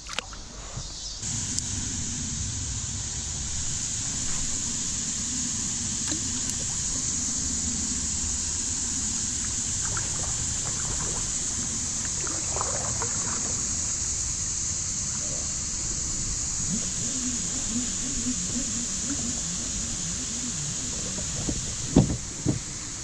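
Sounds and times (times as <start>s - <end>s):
water lapping against kayak: 0.0s - 2.3s, 3.3s - 23.0s
wind rumble on microphone: 0.0s - 23.0s
steady high hiss: 0.4s - 23.0s.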